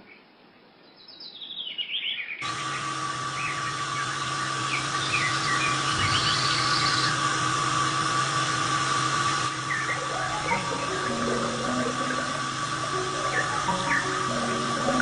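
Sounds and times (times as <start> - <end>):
birds chirping: 0.9 - 15.0
small electric motor whining: 2.4 - 15.0.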